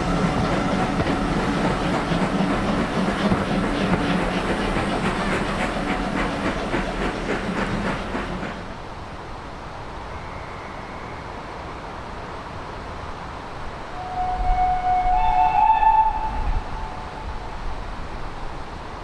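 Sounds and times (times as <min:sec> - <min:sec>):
steam train passing: 0:00.0 - 0:19.0.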